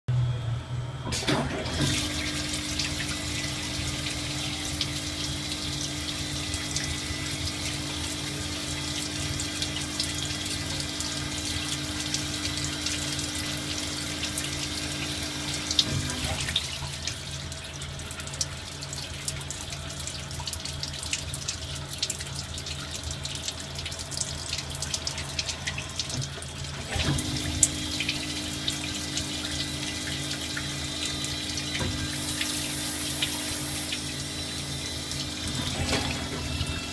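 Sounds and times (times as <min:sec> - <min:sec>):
coolant flowing: 0:01.1 - 0:36.9.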